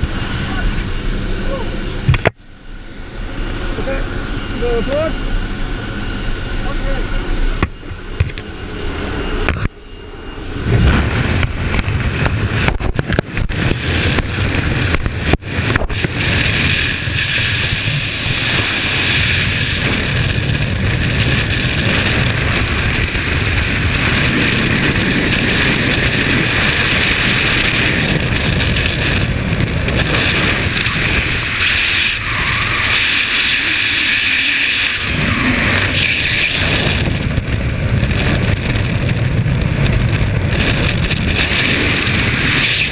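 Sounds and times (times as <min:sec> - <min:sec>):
aircraft noise: 0:00.0 - 0:42.9
wind rushing over microphone: 0:00.0 - 0:42.9.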